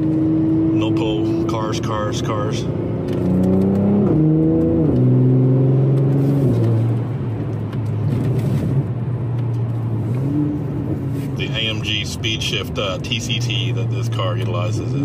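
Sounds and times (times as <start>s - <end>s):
car engine upshifting: 0.0s - 15.0s.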